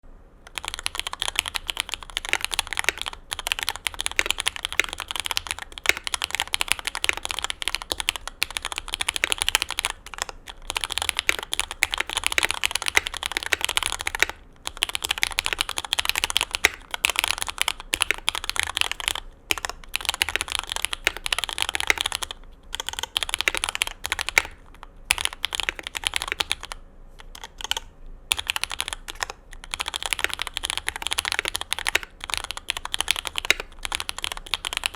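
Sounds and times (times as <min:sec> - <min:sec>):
mechanical keyboard typing: 0:00.5 - 0:34.9.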